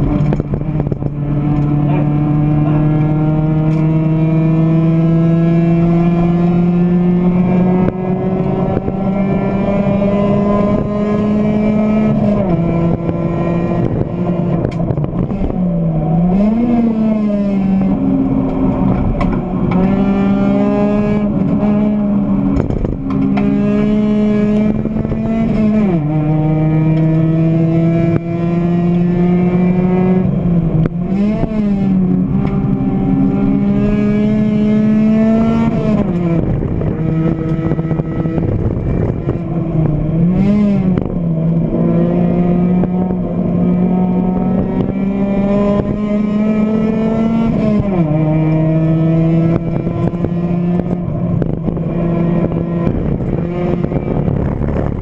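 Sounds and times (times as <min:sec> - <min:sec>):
car engine at racing revs: 0:00.0 - 0:55.0.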